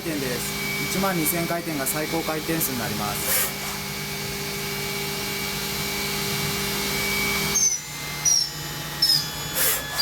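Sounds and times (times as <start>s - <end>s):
machine spindle whining: 0.0s - 10.0s.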